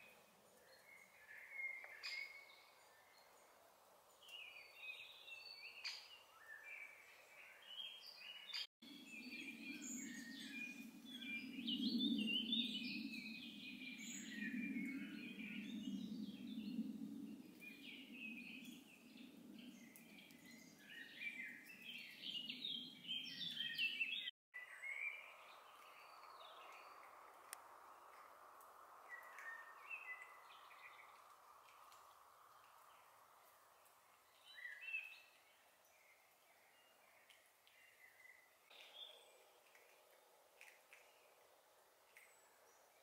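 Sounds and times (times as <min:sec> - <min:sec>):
songbirds chirping and singing: 0:00.0 - 0:28.3, 0:29.0 - 0:39.9.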